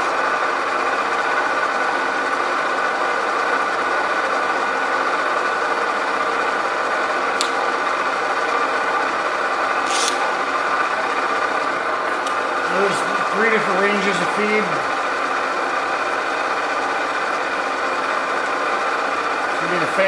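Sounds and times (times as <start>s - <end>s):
milling machine spindle humming: 0.0s - 20.0s.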